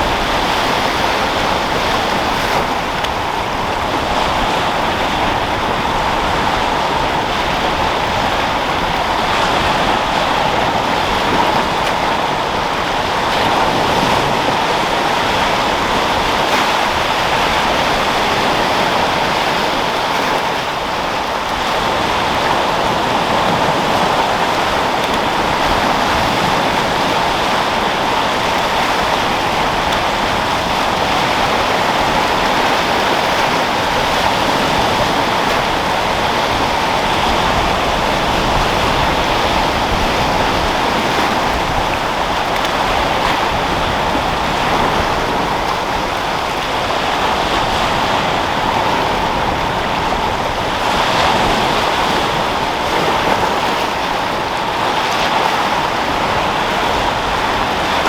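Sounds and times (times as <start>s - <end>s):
sea waves breaking: 0.0s - 58.0s
wind: 0.0s - 58.0s.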